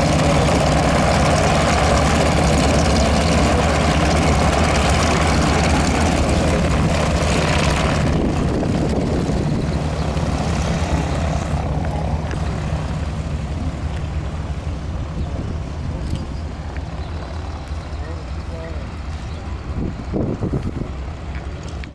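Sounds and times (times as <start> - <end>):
radial engines drone: 0.0 - 21.9.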